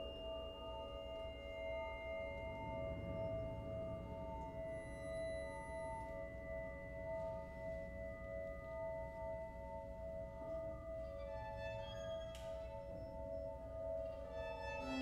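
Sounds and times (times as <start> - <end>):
higher ringing glass tones: 0.0 - 15.0.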